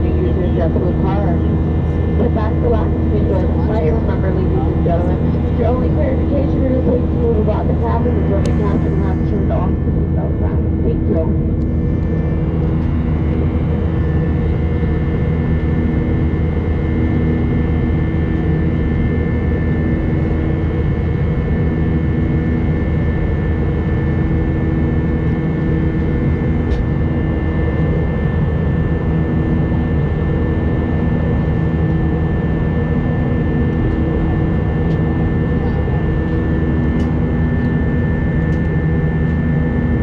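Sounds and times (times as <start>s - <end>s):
airliner cabin jet engine drone: 0.0s - 40.0s.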